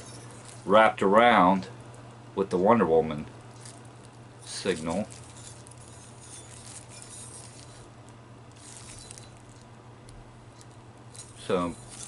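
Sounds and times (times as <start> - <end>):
bubble wrap crinkling: 0.0 - 0.8, 3.1 - 12.0
steady low hum: 0.0 - 12.0.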